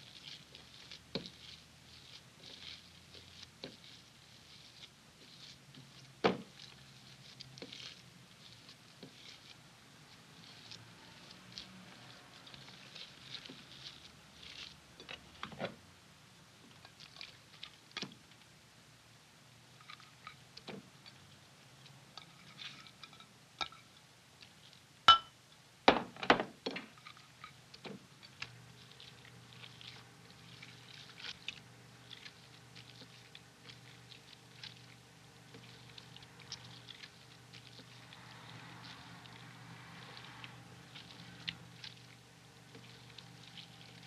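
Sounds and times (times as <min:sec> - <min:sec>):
hands kneading minced meat: 0:00.0 - 0:44.0
low steady hum: 0:00.0 - 0:44.0.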